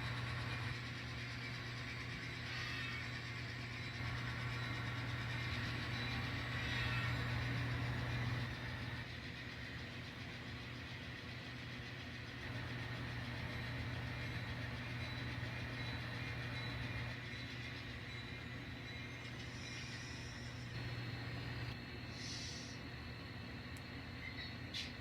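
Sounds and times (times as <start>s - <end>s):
model locomotive humming: 0.0s - 22.8s.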